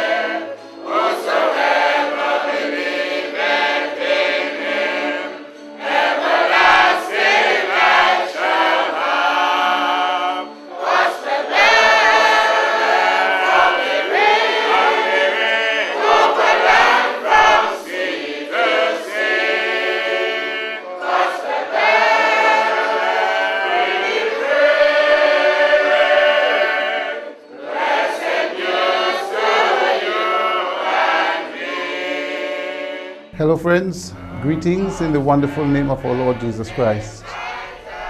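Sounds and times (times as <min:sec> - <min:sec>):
congregation singing a hymn: 0:00.0 - 0:38.0.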